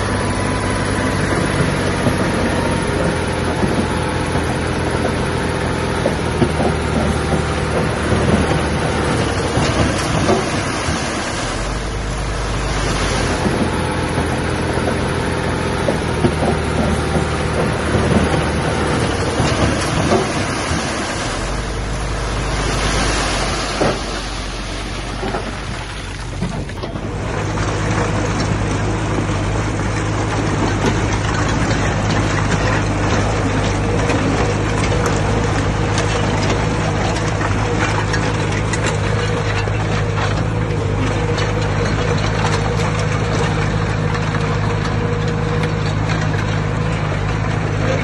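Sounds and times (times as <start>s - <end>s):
bulldozer diesel engine running: 0.0s - 48.0s
knocks and rattles: 0.0s - 48.0s.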